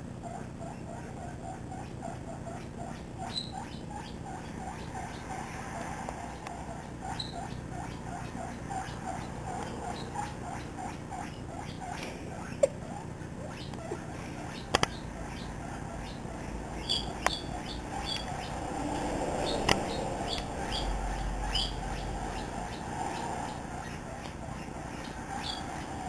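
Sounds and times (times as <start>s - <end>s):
guinea pig squeaking: 0.0s - 26.0s.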